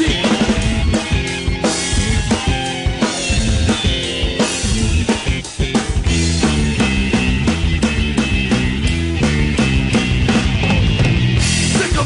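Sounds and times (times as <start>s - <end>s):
hard rock band playing: 0.0s - 12.0s.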